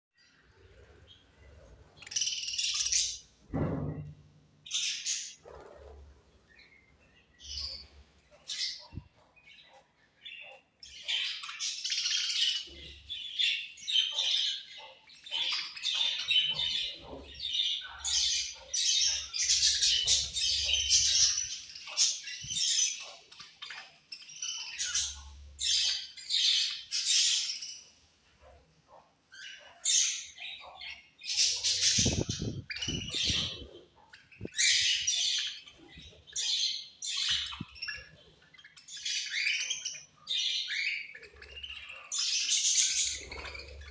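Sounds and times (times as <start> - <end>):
budgerigars chirping and squawking: 0.2 - 43.9.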